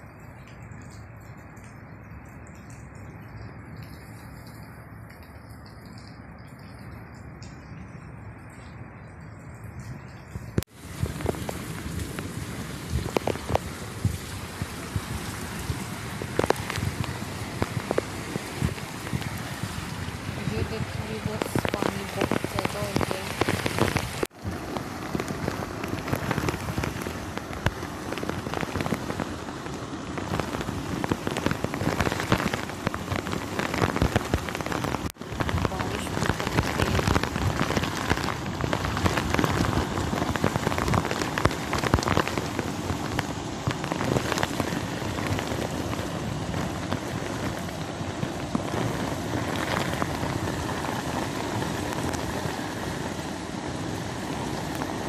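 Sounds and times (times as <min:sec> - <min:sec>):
heavy rain pouring: 0:00.0 - 0:55.0
floodwater rushing: 0:10.6 - 0:55.0.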